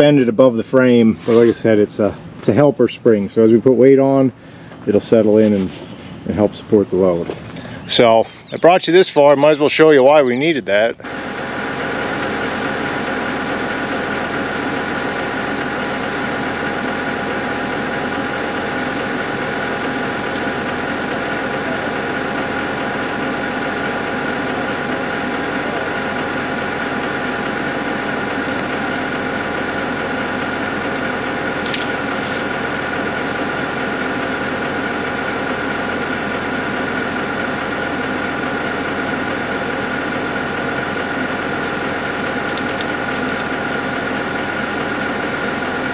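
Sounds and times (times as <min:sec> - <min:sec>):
high whine: 0:00.0 - 0:45.9
tractor engine running: 0:00.0 - 0:45.9.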